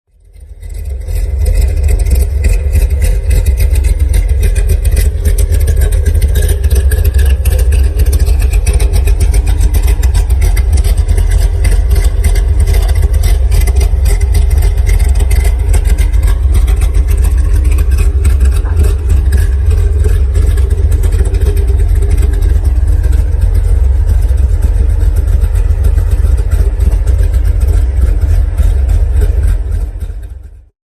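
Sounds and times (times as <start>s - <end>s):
car engine idling: 0.1s - 30.7s.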